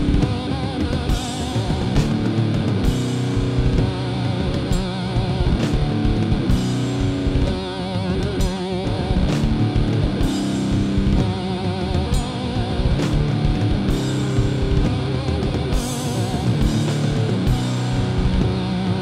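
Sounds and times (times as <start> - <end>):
drums: 0.0 - 19.0
guitar sustained wavering notes: 0.0 - 19.0
heavy rock music: 0.0 - 19.0.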